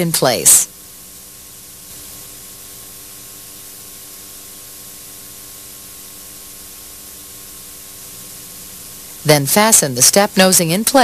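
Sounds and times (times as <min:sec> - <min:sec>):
faint hum: 0:00.0 - 0:11.0
tape hiss: 0:00.0 - 0:11.0.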